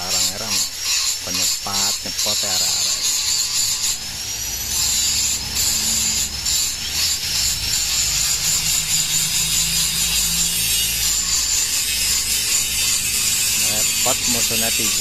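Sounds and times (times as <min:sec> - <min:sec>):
power tool scraping: 0:00.0 - 0:15.0.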